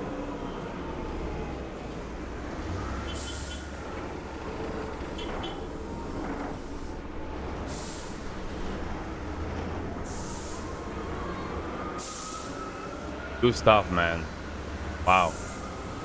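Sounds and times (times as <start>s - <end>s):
heavy vehicles rumbling: 0.0s - 16.0s.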